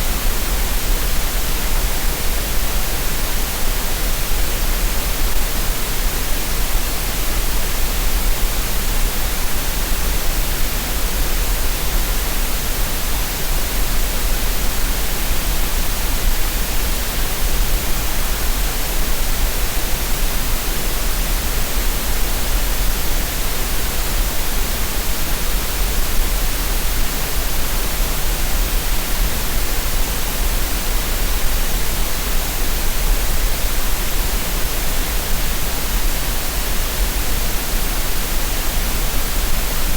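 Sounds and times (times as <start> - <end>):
steady green noise hiss: 0.0 - 39.9.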